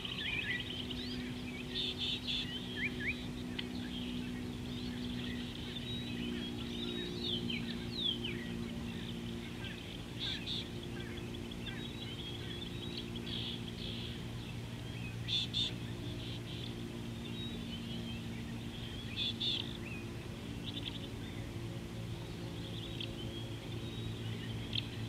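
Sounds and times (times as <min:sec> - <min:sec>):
birds chirping and whistling: 0:00.0 - 0:25.0
low steady hum: 0:00.0 - 0:25.0.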